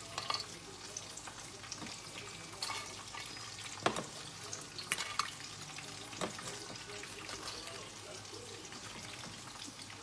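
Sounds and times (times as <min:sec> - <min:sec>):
oil frying with crackles: 0:00.0 - 0:10.0.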